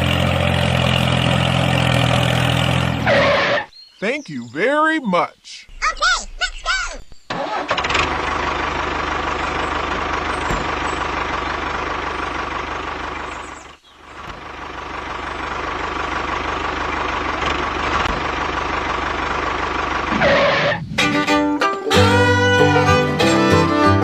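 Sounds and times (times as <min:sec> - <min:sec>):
engine running steadily: 0:00.0 - 0:03.6, 0:07.3 - 0:24.0.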